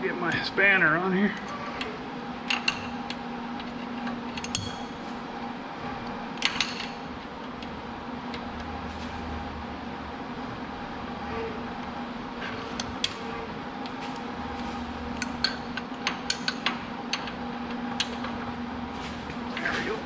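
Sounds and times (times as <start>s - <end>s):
steady machinery hum: 0.0s - 20.0s.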